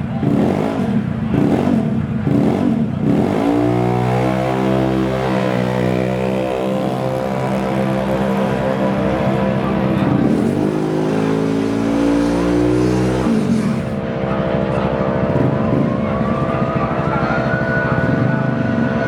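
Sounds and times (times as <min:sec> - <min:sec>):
scooter engines revving: 0:00.0 - 0:19.0.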